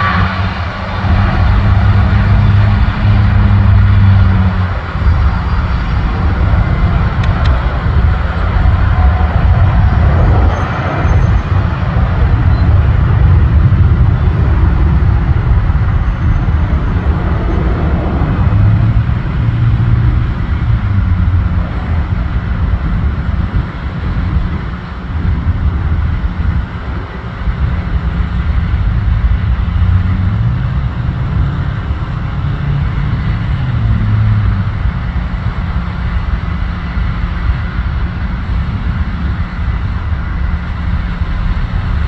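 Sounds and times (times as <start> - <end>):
jet engines at takeoff: 0.0 - 42.0.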